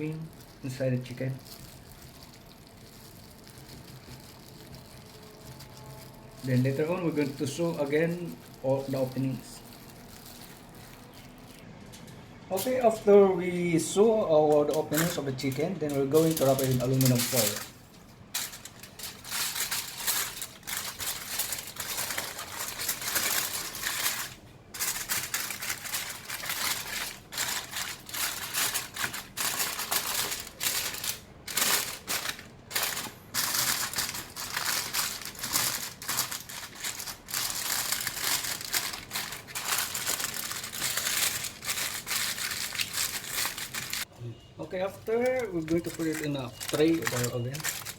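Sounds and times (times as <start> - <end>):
aluminum foil crinkling: 0.0 - 44.1, 44.7 - 47.9.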